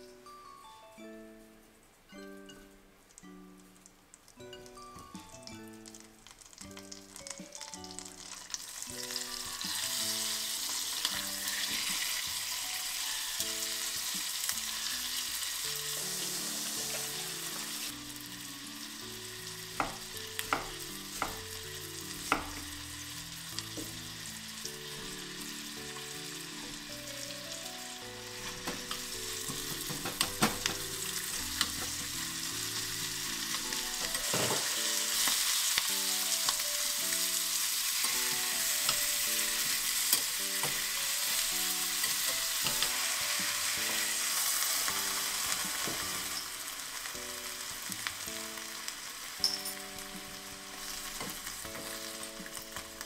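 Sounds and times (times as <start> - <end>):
soft background music: 0.0 - 53.0
chicken and onion sizzling: 2.2 - 53.0.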